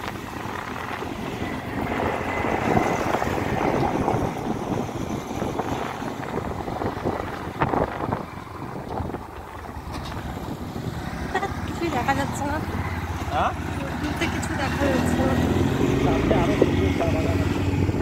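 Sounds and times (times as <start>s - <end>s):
motorbike engine: 0.0s - 18.0s
road noise: 0.0s - 18.0s
wind buffeting microphone: 0.0s - 18.0s.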